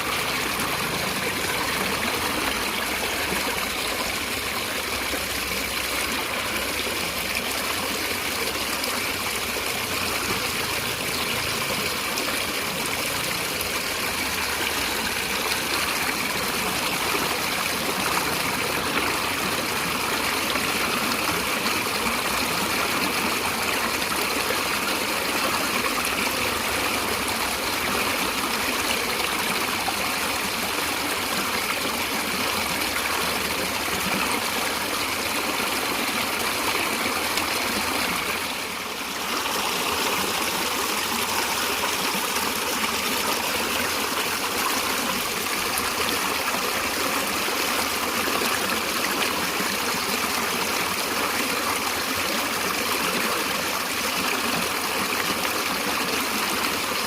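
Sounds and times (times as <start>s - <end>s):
stream of water rushing: 0.0s - 57.0s.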